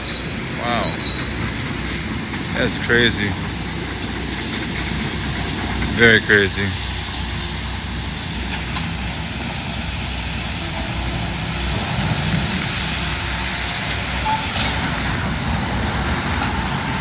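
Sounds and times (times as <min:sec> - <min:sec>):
excavator engine rumble: 0:00.0 - 0:17.0.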